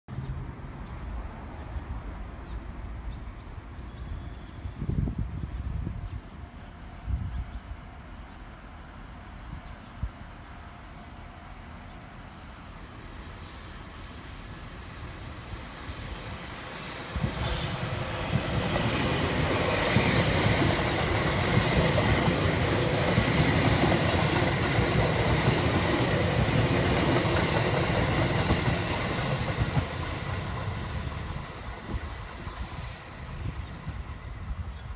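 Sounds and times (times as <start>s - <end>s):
electric train passing: 0.2s - 34.9s.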